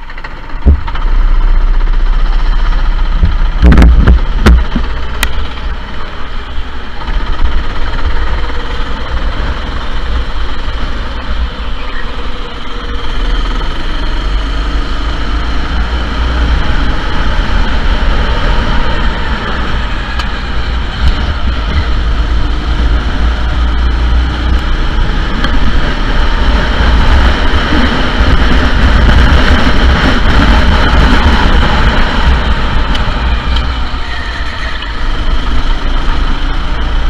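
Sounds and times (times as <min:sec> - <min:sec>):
go-kart engine running: 0:00.0 - 0:37.0
heavy low rumble: 0:00.0 - 0:37.0.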